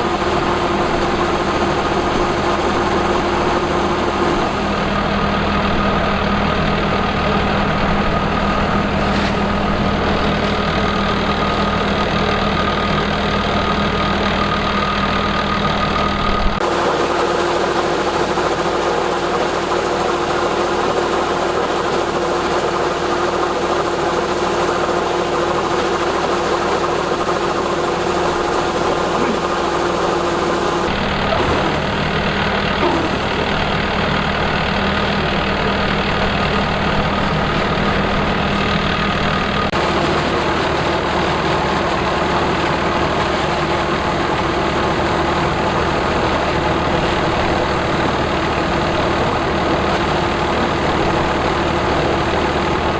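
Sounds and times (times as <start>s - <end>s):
combine harvester engine humming: 0.0s - 52.9s.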